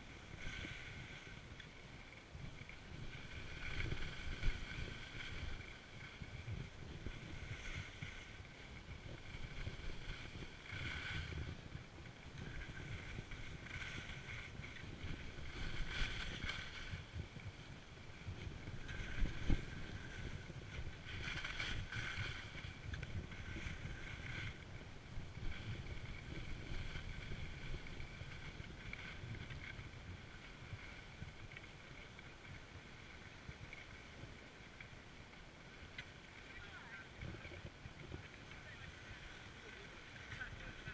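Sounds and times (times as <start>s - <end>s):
wind buffeting microphone: 0.0s - 34.5s, 36.2s - 40.9s
skis scraping over snow: 0.0s - 40.9s.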